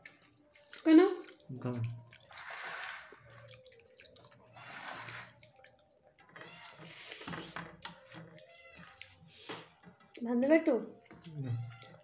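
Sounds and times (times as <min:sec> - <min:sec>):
chewing: 0:00.0 - 0:10.2.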